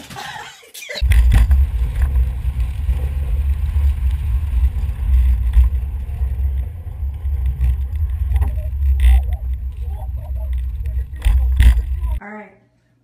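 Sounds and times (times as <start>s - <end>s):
vehicle rumble: 1.0s - 12.2s
wind on microphone: 1.0s - 12.2s.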